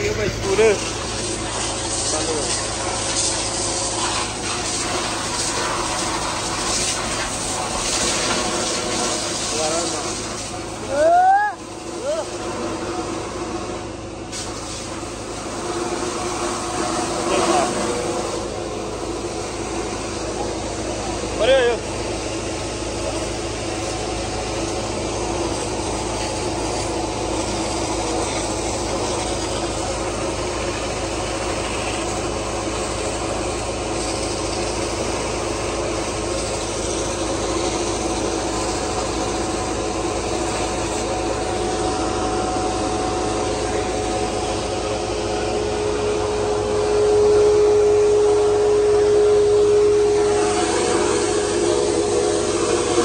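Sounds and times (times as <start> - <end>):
hose spraying water: 0.0 - 53.0
steady hum: 0.0 - 53.0
vacuum truck running: 0.0 - 53.0.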